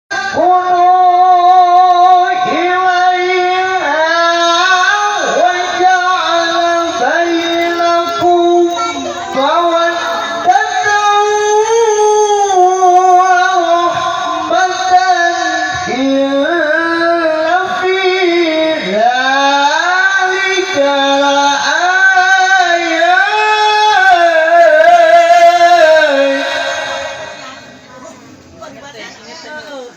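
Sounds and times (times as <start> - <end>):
man reciting melodically: 0.1 - 27.4.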